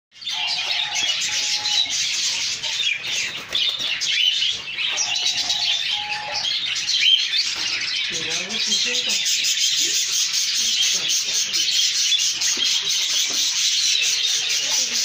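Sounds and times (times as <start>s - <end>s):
cage birds chirping: 0.1s - 15.0s.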